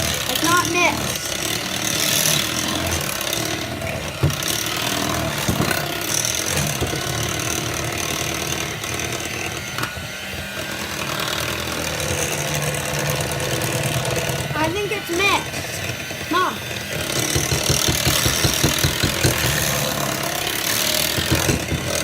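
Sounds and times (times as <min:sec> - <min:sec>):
electric hand mixer running: 0:00.0 - 0:22.0.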